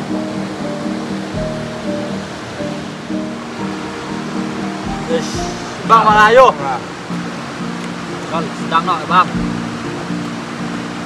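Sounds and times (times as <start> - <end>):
flowing river water: 0.0 - 11.0
music of held notes: 0.0 - 11.0.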